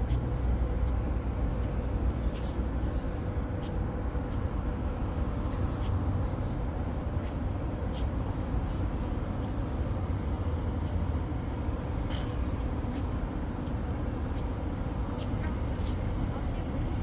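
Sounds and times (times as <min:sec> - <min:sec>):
footsteps on brick paving: 0:00.0 - 0:05.9, 0:06.7 - 0:17.0
city background rumble: 0:00.0 - 0:17.0.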